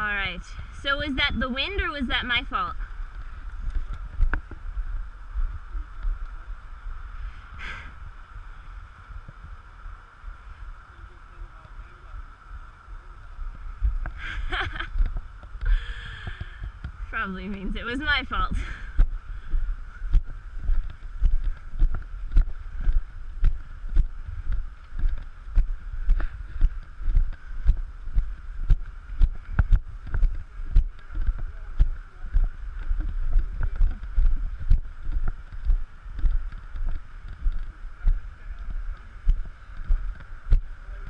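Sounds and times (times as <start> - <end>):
footsteps on grass: 0.0 - 41.0
wind rumbling on microphone: 0.0 - 41.0.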